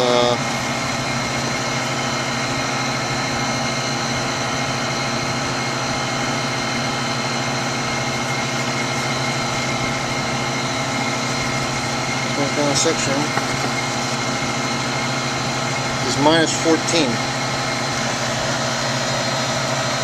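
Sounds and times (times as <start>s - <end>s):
refrigeration unit humming: 0.0s - 20.0s.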